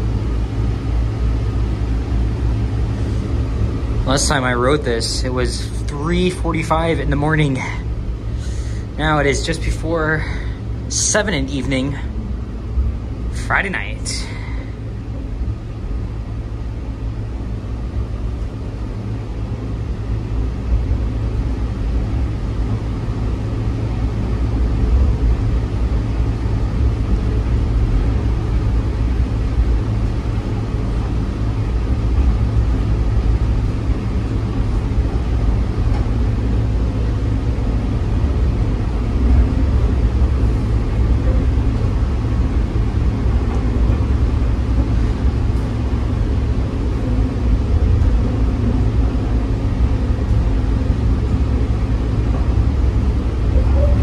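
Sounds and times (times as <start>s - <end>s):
people-mover car rumbling: 0.0s - 6.1s, 11.9s - 54.0s.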